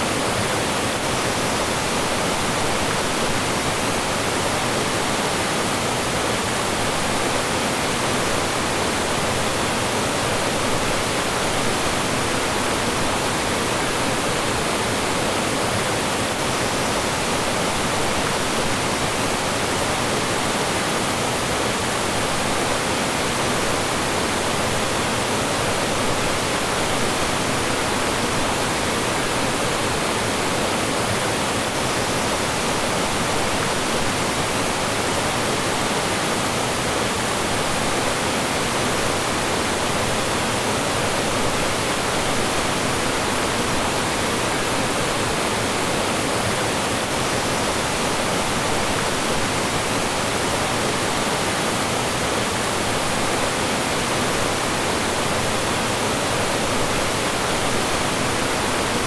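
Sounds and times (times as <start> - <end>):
stream rushing over small falls: 0.0 - 59.0.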